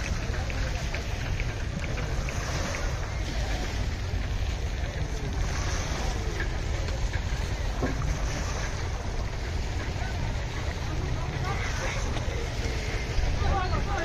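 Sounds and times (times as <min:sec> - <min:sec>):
faint distant voices: 0:00.0 - 0:14.0
outdoor hubbub: 0:00.0 - 0:14.0
wind rumbling on microphone: 0:00.0 - 0:14.0.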